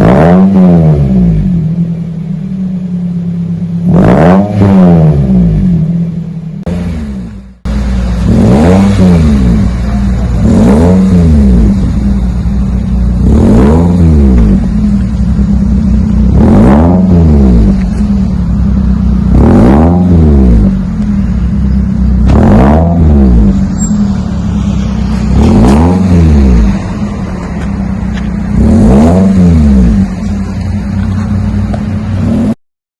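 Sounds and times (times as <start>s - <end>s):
car engine revving from idle: 0.0s - 32.6s.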